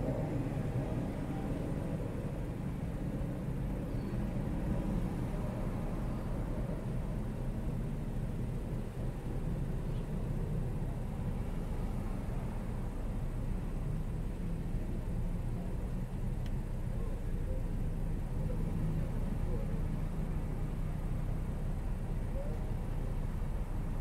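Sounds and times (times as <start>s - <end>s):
car idling: 0.0s - 24.0s
city street traffic: 0.0s - 24.0s.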